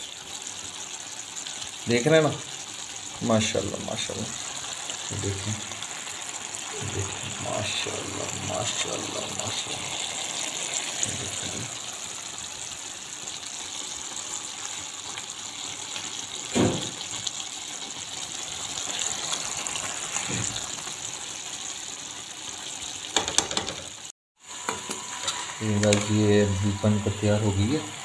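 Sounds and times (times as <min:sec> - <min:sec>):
curry bubbling in a pan: 0:00.0 - 0:24.1.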